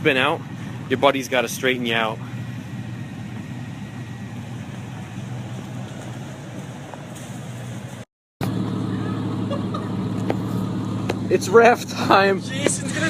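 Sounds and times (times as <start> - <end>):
pickup truck engine running: 0.0 - 13.0.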